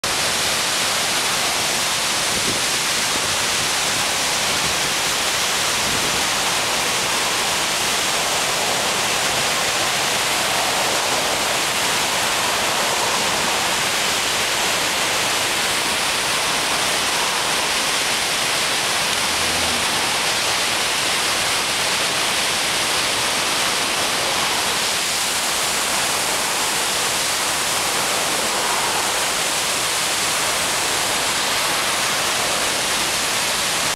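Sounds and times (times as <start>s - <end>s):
river rushing over rapids: 0.0s - 33.9s.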